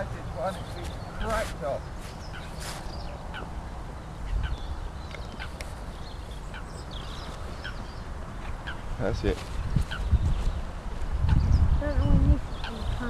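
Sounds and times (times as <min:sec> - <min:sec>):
waterbirds calling: 0:00.0 - 0:13.0
wind rumble on microphone: 0:00.0 - 0:13.0.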